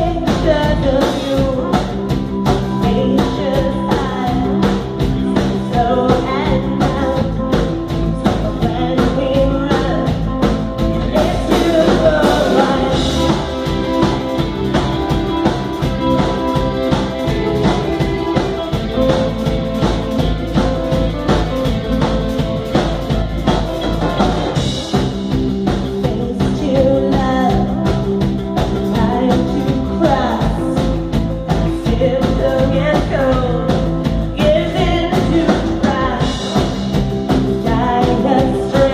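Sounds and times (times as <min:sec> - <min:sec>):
live rock band playing: 0:00.0 - 0:38.9
melodic lead line: 0:00.0 - 0:38.9.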